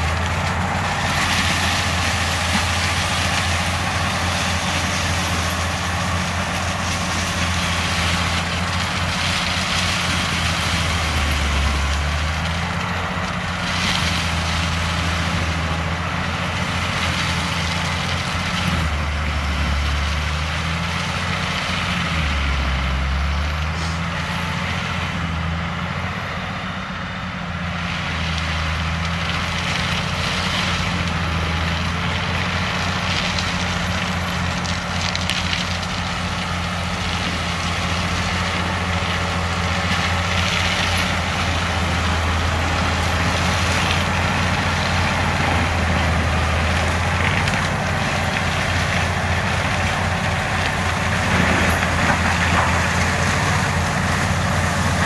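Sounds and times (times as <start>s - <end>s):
mulcher rushing through brush: 0.0s - 55.0s
tractor diesel engine drone: 0.0s - 55.0s.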